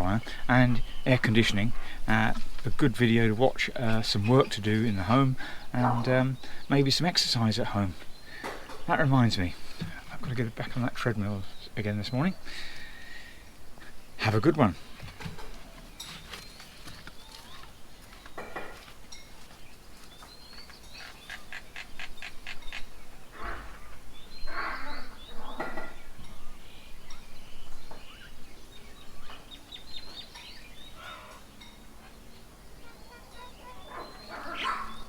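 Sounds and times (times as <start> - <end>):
birds chirping and calling: 0.0 - 35.0.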